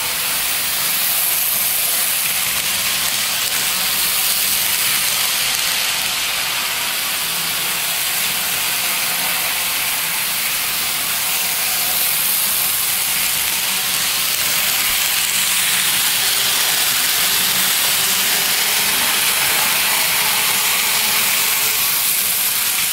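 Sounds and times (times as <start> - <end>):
model trains hissing: 0.0 - 22.9.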